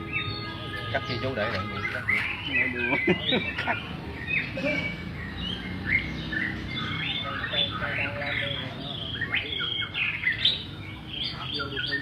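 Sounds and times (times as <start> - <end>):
bird chirping and squawking: 0.0 - 12.0.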